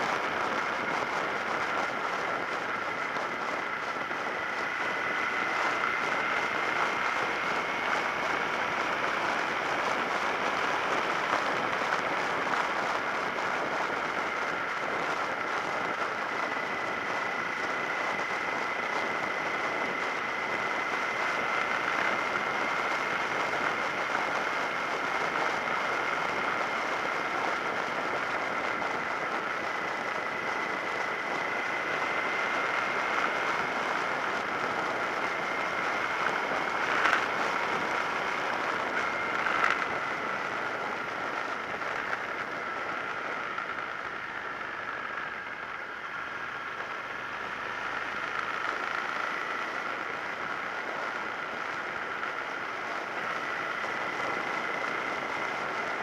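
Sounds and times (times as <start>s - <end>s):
faint steady whine: 0.0s - 56.0s
wind rushing over camera: 0.0s - 56.0s.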